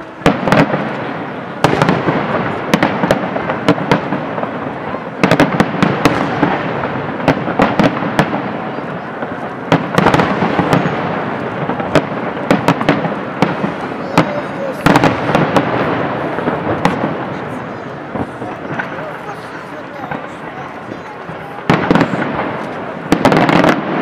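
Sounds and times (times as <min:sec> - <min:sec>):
fireworks bangs: 0:00.0 - 0:24.0
fireworks crackle and echo: 0:00.0 - 0:24.0.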